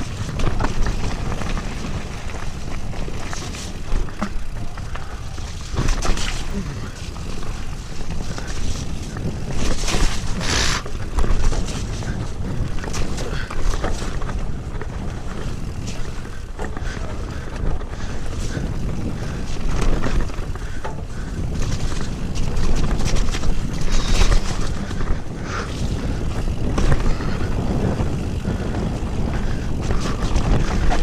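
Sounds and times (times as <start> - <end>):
bike clicks and rattles: 0.0 - 31.0
wind buffeting microphone: 0.0 - 31.0.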